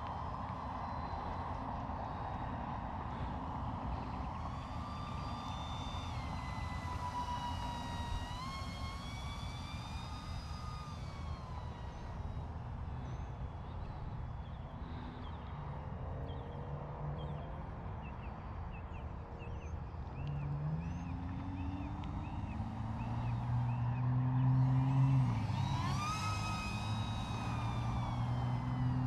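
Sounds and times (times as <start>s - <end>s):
model aircraft propeller whine: 0.0s - 29.0s.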